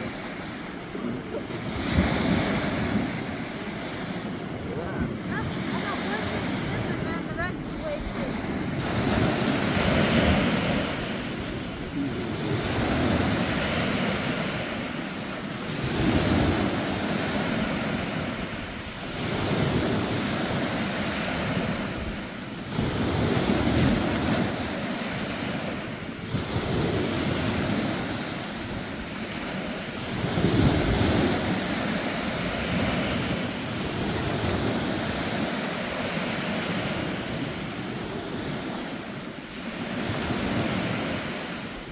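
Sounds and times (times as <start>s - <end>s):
small waves breaking on sand: 0.0s - 41.9s.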